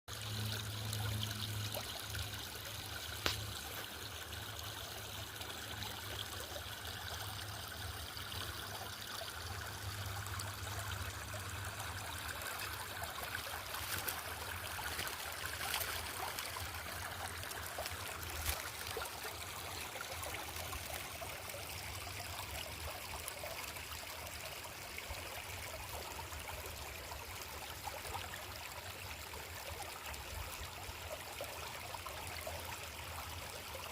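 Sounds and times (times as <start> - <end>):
stream trickling: 0.1 - 33.9.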